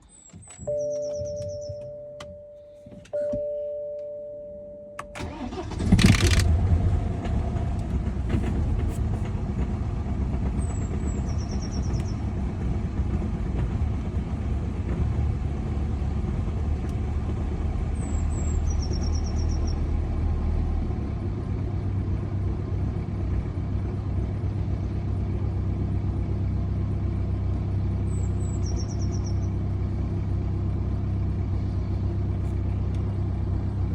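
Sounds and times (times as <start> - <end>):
diesel engine cranking and idling: 5.0 - 33.9.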